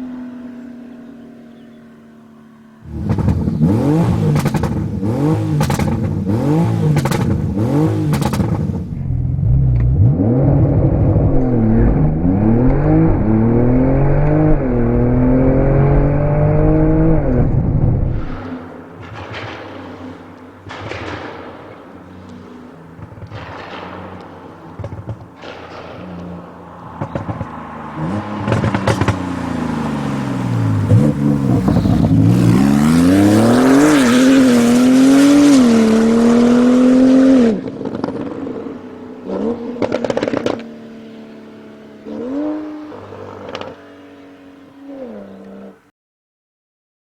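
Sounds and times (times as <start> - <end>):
car engine accelerating: 0.0 - 45.9
exhaust pops and bangs: 2.9 - 40.8.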